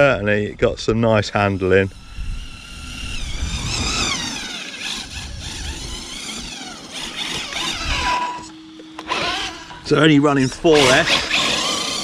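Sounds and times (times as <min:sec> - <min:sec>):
electric motor whining: 0:01.0 - 0:12.0.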